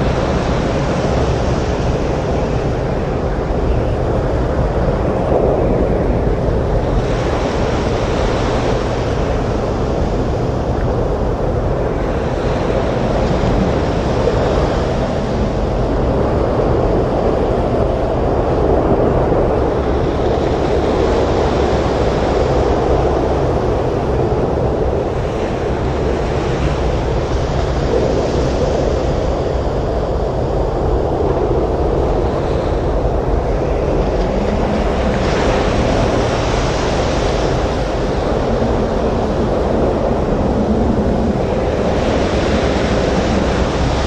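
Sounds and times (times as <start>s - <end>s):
waves breaking: 0.0s - 44.0s
wind: 0.0s - 44.0s.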